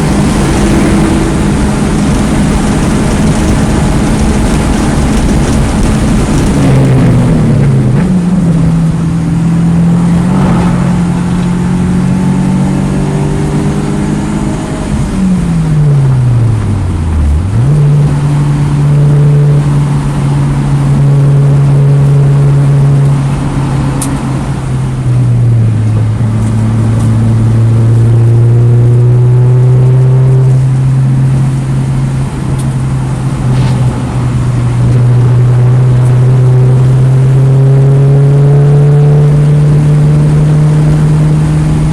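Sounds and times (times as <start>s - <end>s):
car engine revving hard: 0.0s - 16.7s, 17.3s - 41.9s.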